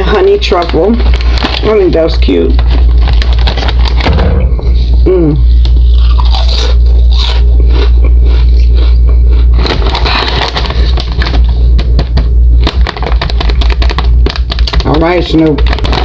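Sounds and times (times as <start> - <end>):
chips being chewed: 0.4 - 4.1, 5.5 - 12.0, 12.6 - 16.0.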